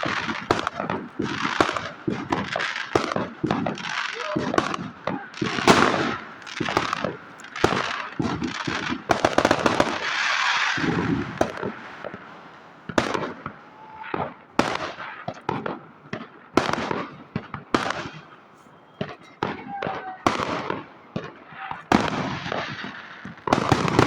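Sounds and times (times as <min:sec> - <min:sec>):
firework crackling: 0:00.0 - 0:24.0
fireworks bangs: 0:00.0 - 0:24.0.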